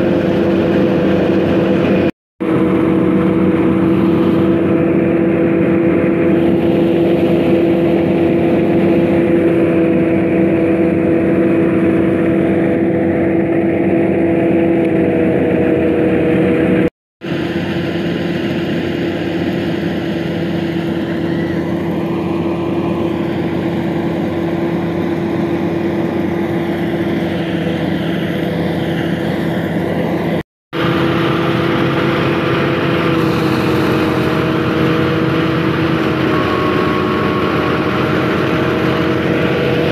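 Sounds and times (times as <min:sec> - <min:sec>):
thresher humming: 0:00.0 - 0:39.9
tractor diesel engine running: 0:00.0 - 0:39.9.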